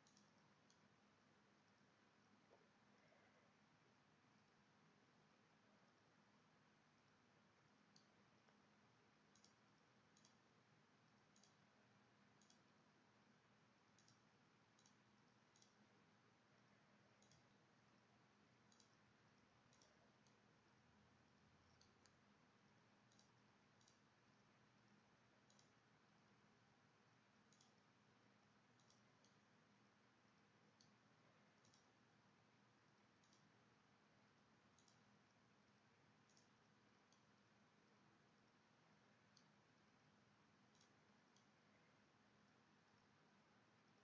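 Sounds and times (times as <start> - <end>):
computer mouse clicks: 0.0 - 3.4, 6.9 - 44.0
low steady hum: 0.0 - 44.0.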